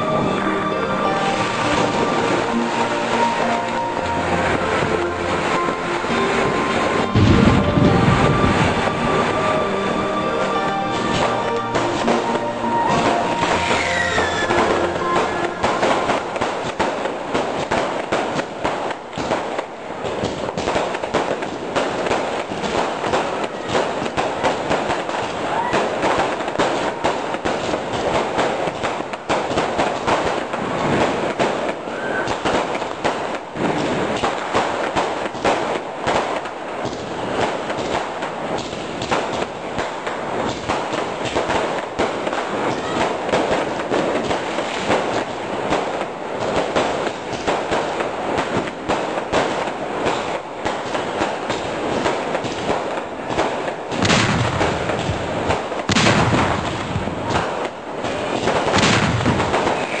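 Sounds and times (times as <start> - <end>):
fireworks crackling and banging: 0.0 - 60.0
deep firework booms: 1.3 - 9.8, 10.9 - 60.0.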